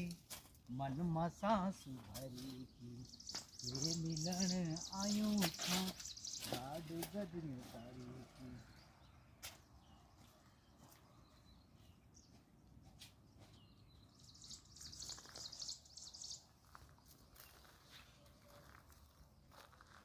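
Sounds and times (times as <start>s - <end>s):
small bird chirps: 1.8s - 20.0s.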